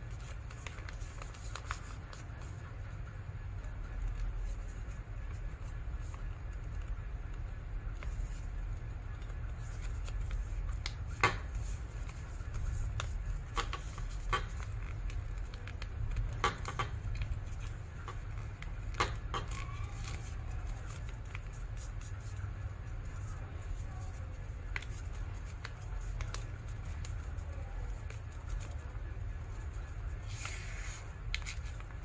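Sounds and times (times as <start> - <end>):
paper being folded and creased: 0.0 - 32.0
paper crinkles and taps: 0.0 - 32.0.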